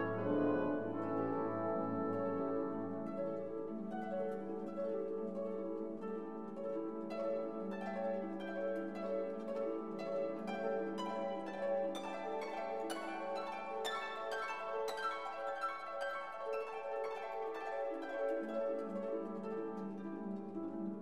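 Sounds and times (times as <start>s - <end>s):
plucked harp-like notes: 0.0s - 21.0s.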